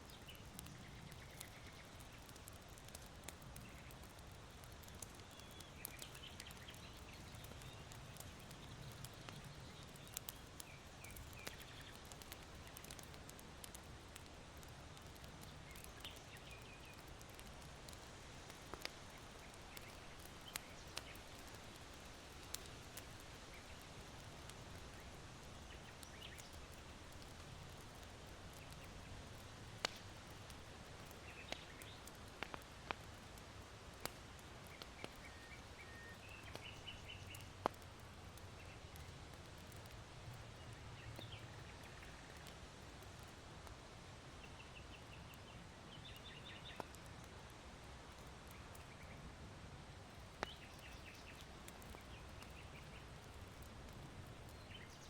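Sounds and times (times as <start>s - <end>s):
charcoal embers crackling: 0.0s - 55.0s.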